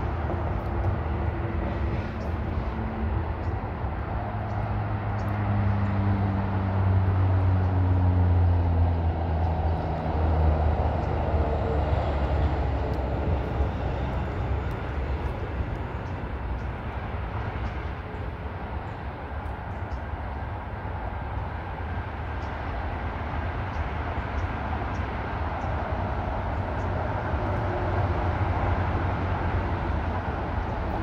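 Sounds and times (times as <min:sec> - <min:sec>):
large vehicle engine drone: 0:00.0 - 0:31.0.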